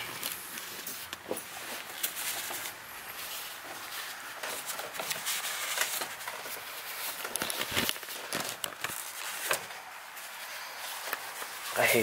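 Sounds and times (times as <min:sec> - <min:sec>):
hands handling metal parts: 0:00.0 - 0:12.0.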